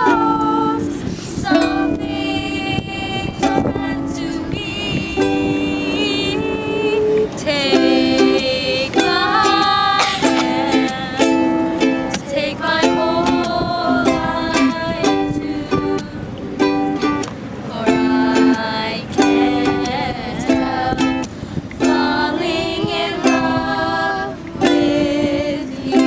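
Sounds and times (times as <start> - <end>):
ukulele strumming: 0.0 - 26.0.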